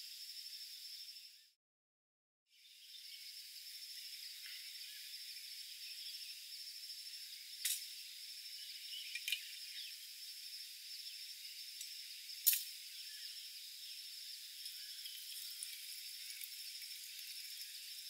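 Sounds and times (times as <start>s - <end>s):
insects chirring: 0.0s - 1.5s, 2.5s - 18.0s.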